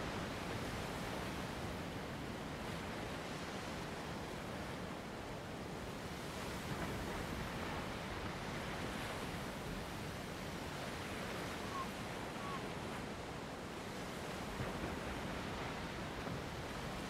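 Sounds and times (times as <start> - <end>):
surf washing on rocky shore: 0.0 - 17.0
wind: 0.0 - 17.0.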